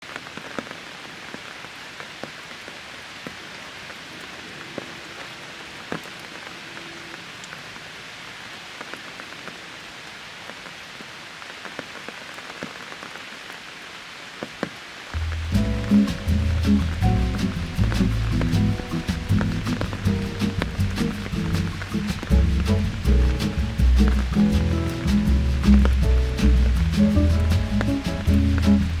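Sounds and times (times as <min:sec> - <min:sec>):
rain pattering on leaves: 0:00.0 - 0:29.0.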